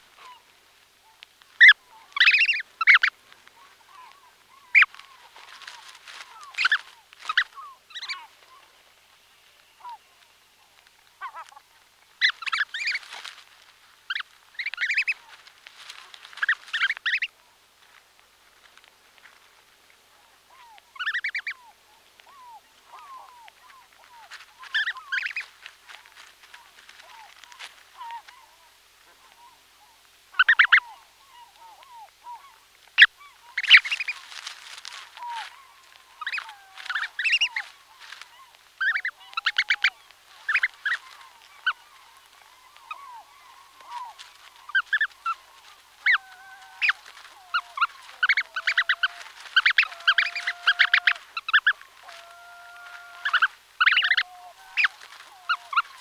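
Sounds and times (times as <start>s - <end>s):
goslings soft peeps: 0.0s - 18.0s, 18.6s - 56.0s
harsh pulsed gosling calls: 1.0s - 8.7s, 11.2s - 11.6s, 12.2s - 17.4s, 20.5s - 21.7s, 22.3s - 56.0s.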